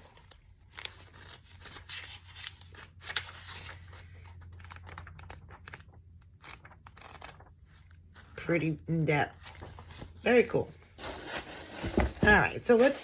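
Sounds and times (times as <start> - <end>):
paper pages flipping: 0.0 - 8.4, 9.4 - 10.2, 11.0 - 12.9.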